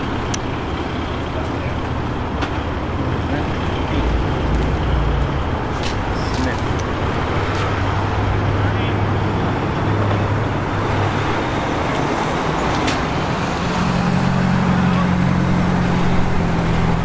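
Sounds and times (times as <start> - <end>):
higher-pitched engine hum: 0.0 - 17.0
truck diesel engine rumbling: 0.0 - 17.0.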